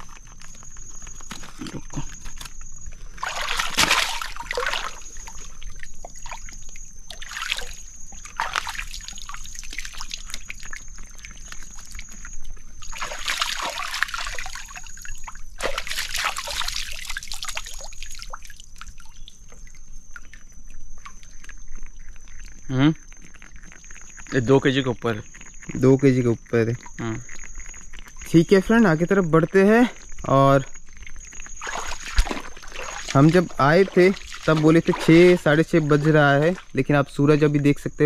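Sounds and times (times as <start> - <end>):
shallow water sloshing and splashing: 0.0 - 38.0.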